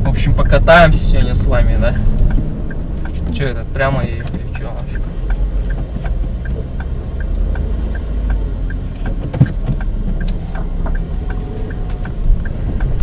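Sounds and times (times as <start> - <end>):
road and engine rumble: 0.0 - 13.0
turn signal ticking: 0.0 - 13.0.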